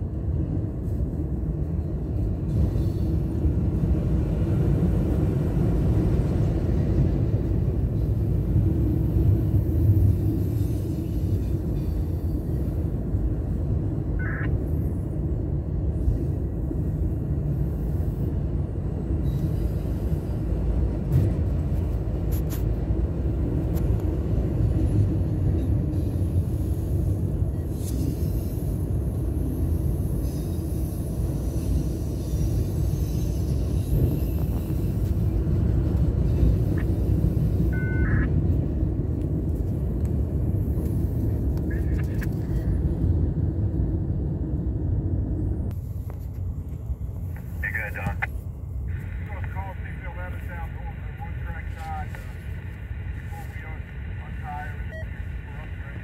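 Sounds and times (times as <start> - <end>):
rumble of wheels on rail: 0.0 - 56.0.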